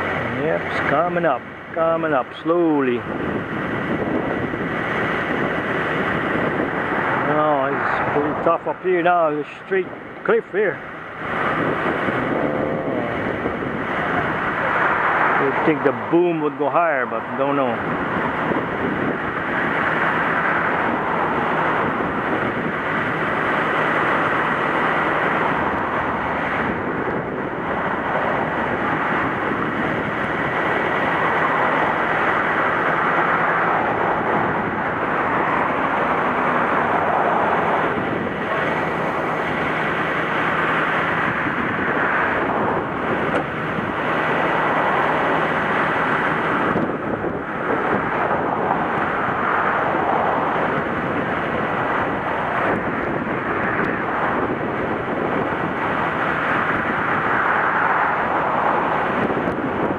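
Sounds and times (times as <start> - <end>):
breaking surf: 0.0 - 59.9
truck engine humming: 0.0 - 59.9
wind buffeting microphone: 0.0 - 59.9.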